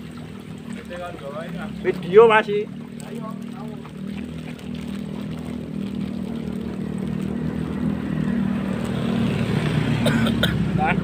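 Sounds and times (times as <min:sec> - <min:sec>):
falling water rushing: 0:00.0 - 0:11.0
motor engine droning: 0:00.0 - 0:11.0.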